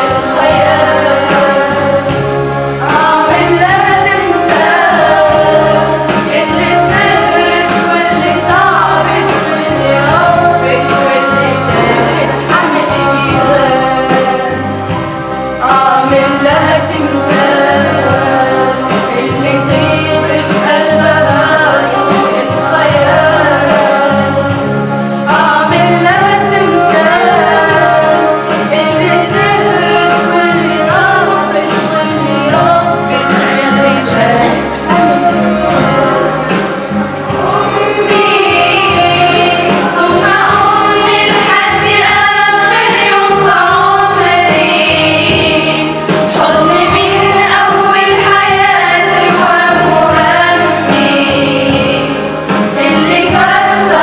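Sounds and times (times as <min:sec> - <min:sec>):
girls singing: 0:00.0 - 0:54.0
instrumental backing with low beat: 0:00.0 - 0:54.0.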